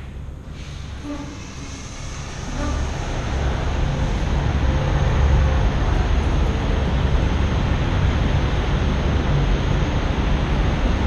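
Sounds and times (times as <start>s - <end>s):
wind buffeting microphone: 1.4s - 11.0s.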